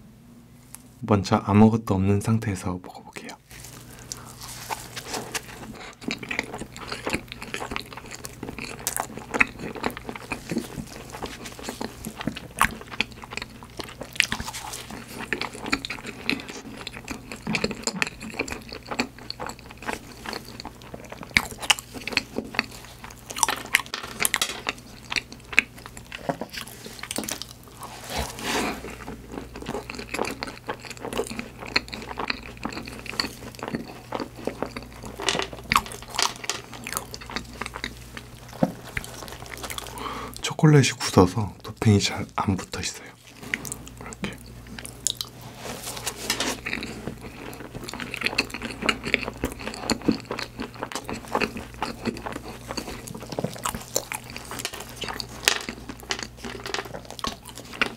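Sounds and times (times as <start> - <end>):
chewing and biting pastry: 3.3 - 57.9.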